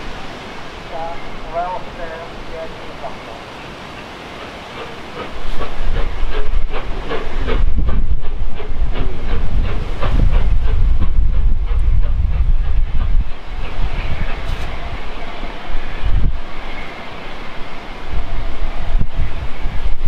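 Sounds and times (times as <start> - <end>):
hissing steam: 0.0 - 20.0
steam locomotive chuffing: 0.0 - 20.0.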